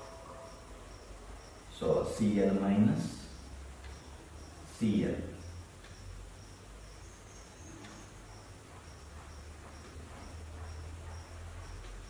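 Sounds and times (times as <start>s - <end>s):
insect chirping: 0.0s - 12.0s
steady low hum: 0.0s - 12.0s.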